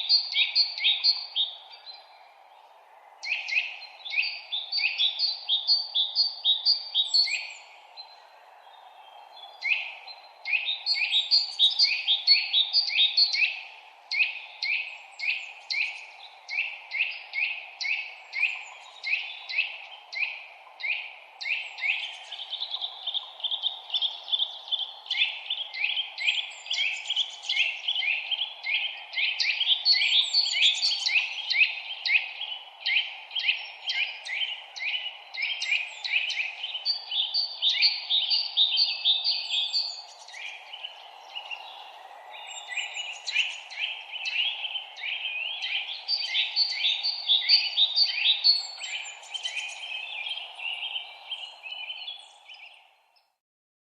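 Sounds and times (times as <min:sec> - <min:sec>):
songbirds chirping: 0:00.0 - 0:53.4.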